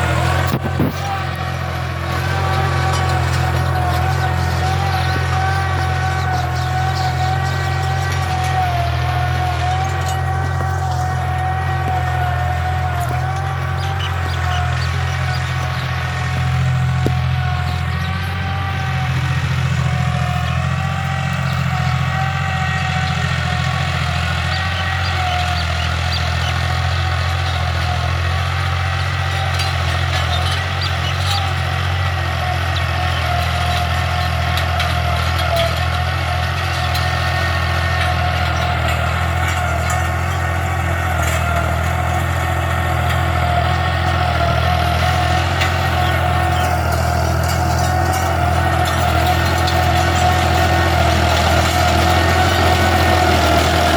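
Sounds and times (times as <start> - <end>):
tractor engine running under load: 0.0 - 53.9.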